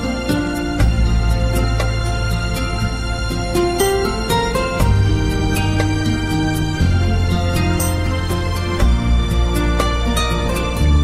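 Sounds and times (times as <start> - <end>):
low bass line: 0.0 - 11.0.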